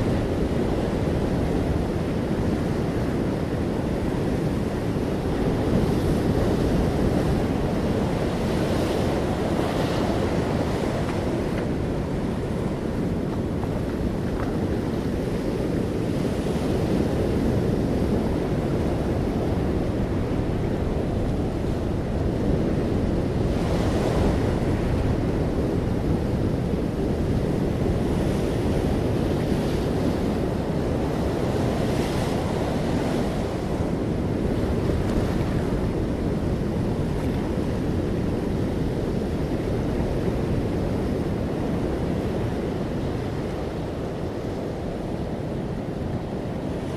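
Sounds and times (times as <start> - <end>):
waves breaking: 0.0 - 46.9.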